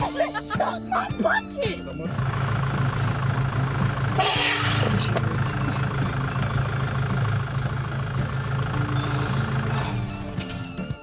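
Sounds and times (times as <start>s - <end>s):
car engine idling: 1.7s - 11.0s.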